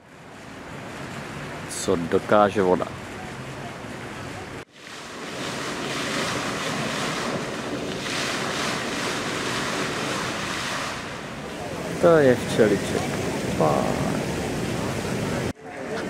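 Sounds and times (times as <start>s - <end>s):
fountain jet splashing: 0.0s - 16.0s.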